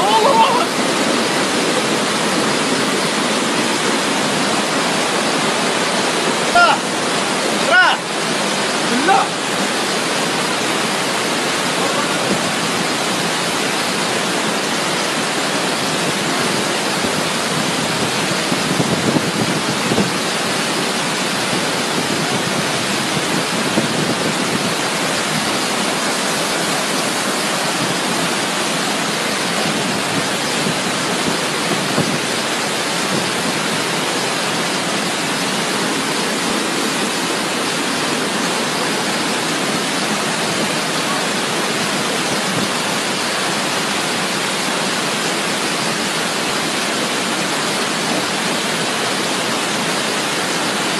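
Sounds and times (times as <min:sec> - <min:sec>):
floodwater rushing: 0:00.0 - 0:50.9.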